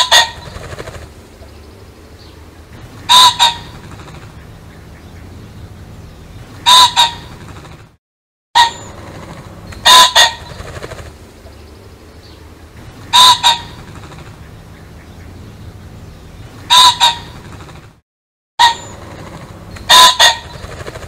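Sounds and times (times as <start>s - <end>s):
pheasant calling: 0.0s - 7.5s, 8.6s - 17.8s, 18.6s - 21.0s.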